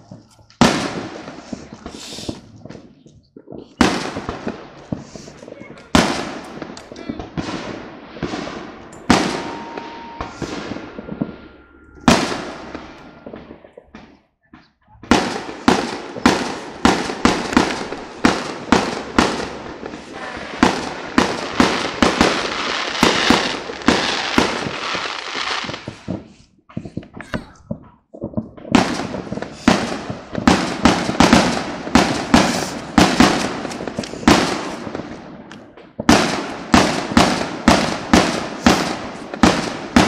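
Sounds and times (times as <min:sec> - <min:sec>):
fireworks bangs and booms: 0:00.0 - 0:40.0.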